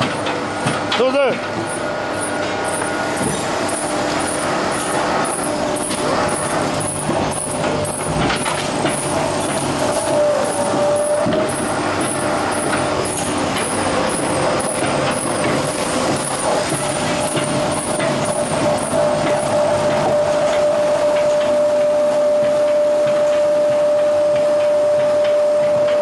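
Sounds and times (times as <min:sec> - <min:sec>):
mill machinery mechanical din: 0:00.0 - 0:26.0
steady machine whine: 0:00.0 - 0:26.0
machinery knocks: 0:02.4 - 0:26.0.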